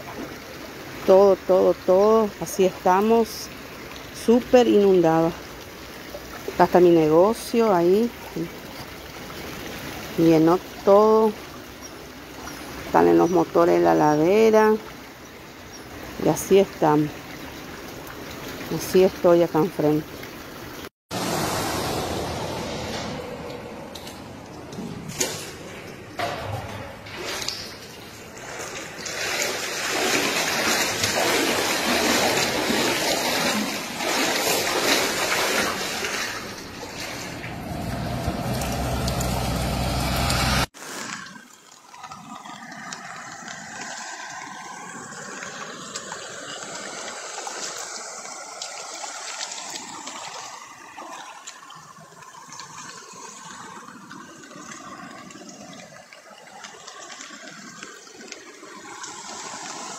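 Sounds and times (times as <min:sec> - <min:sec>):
floodwater running across road: 0:00.0 - 0:59.9
floodwater rushing: 0:00.0 - 0:59.9.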